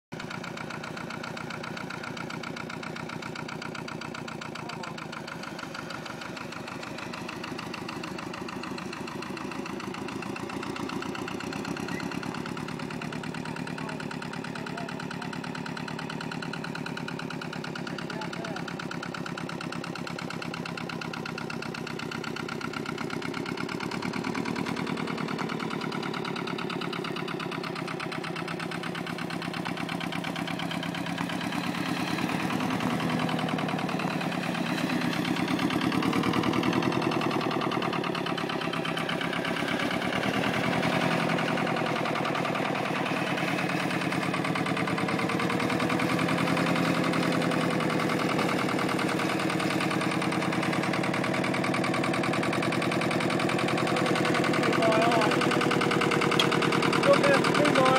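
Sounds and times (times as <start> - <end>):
single-cylinder engine running: 0.1 - 57.9.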